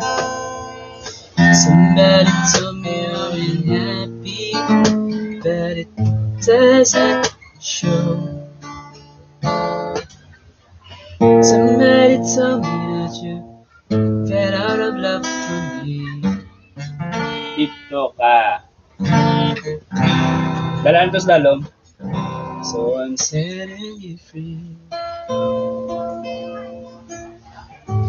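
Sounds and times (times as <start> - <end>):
acoustic guitar strummed: 0.0 - 18.0, 18.6 - 28.0.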